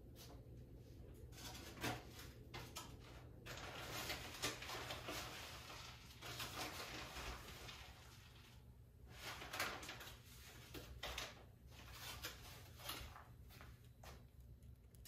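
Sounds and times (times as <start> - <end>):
milk crackling in a pot: 1.1 - 15.0.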